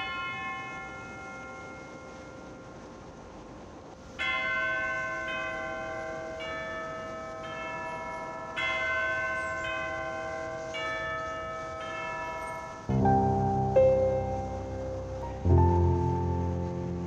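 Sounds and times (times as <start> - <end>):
church bells ringing: 0.0 - 2.8, 4.2 - 17.0.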